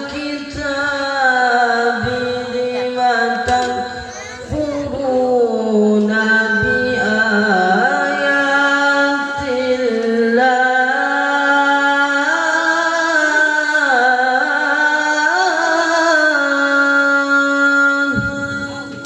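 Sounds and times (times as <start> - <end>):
person chanting melismatic recitation: 0.0 - 19.0.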